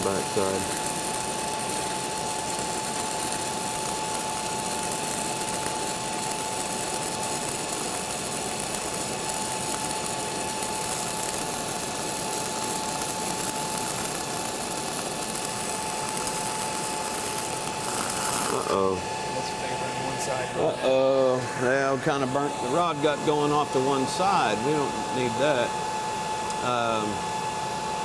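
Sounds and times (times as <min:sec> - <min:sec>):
arc welding crackle: 0:00.0 - 0:27.2.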